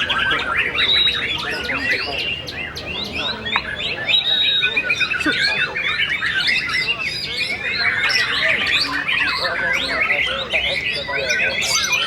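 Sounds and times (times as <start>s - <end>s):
bird singing fast whistles and trills: 0.0s - 12.0s.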